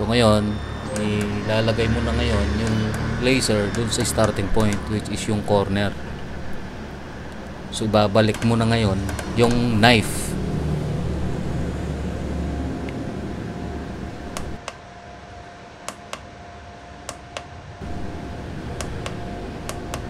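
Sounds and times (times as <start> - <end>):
low rumble: 0.0 - 14.6, 17.8 - 20.0
machine humming: 0.0 - 20.0.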